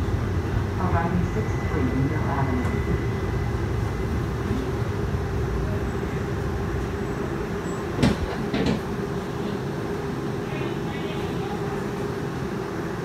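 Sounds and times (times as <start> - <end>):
streetcar cabin rumble: 0.0 - 13.0.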